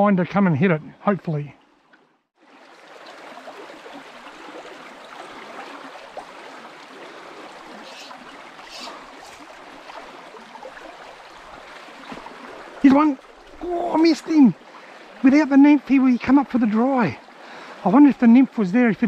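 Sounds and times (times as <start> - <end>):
water flowing over stones: 2.4 - 19.0.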